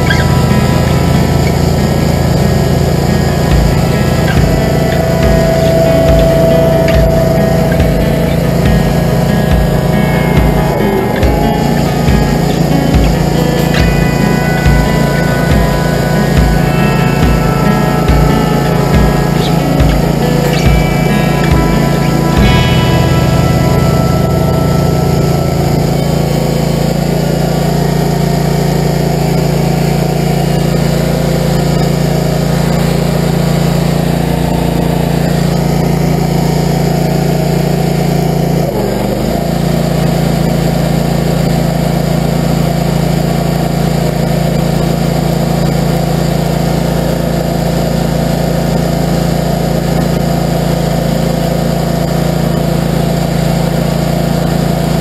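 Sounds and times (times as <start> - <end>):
stump grinder engine running: 0.0 - 55.0.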